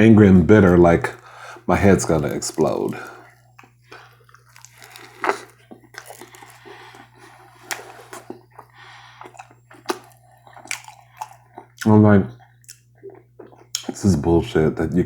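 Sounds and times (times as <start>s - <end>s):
low electrical hum: 0.0s - 15.0s
wet chewing and mouth clicks: 1.0s - 14.0s.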